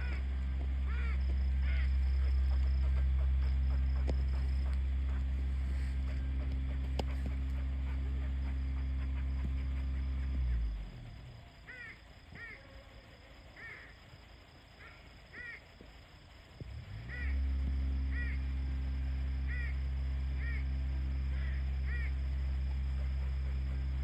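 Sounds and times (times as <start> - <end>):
squirrels barking calls: 0.0 - 16.0, 16.7 - 24.0
low motor hum: 0.0 - 24.0.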